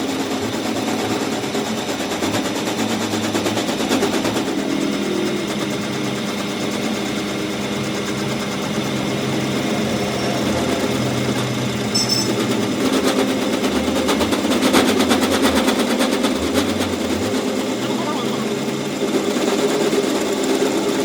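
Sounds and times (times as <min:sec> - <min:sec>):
machine hum: 0:00.0 - 0:21.0
power tool rattling on metal: 0:00.0 - 0:21.0.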